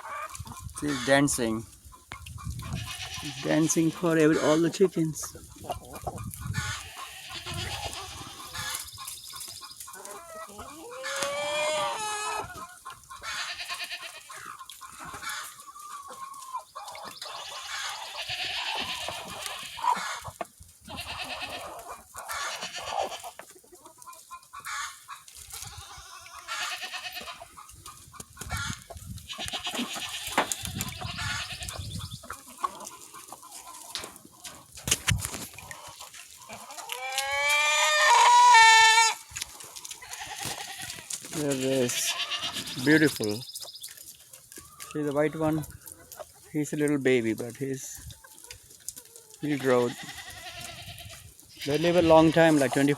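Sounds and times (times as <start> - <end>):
chickens clucking: 0.0 - 52.9.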